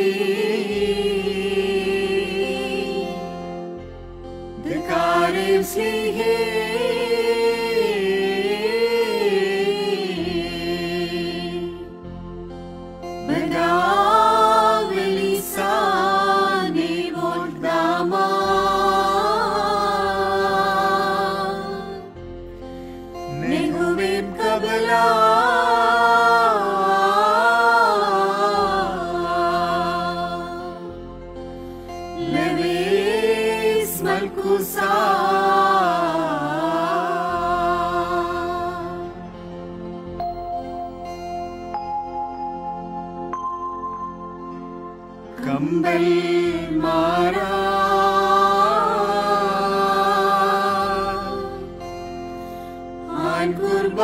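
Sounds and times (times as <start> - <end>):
choir singing slow chant: 0.0 - 41.9, 45.2 - 54.0.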